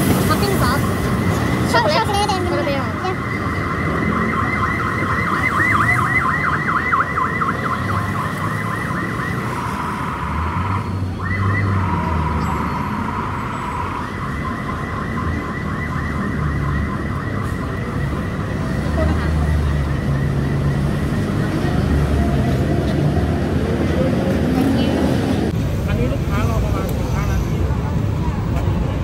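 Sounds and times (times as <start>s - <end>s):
low traffic rumble: 0.0s - 29.0s
emergency siren yelping: 0.2s - 23.8s.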